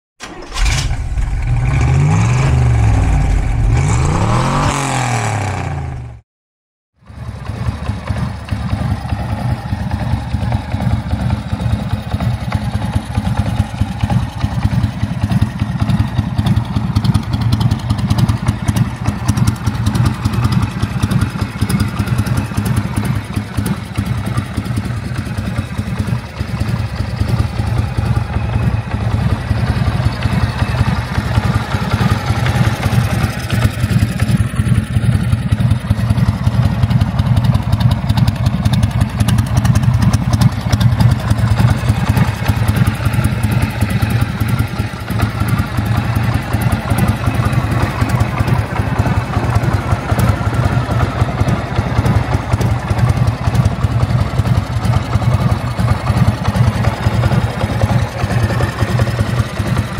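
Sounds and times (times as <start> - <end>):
motorcycle engine revving: 0.2 - 6.2, 7.4 - 59.9
motorcycle engine idling: 7.1 - 59.9.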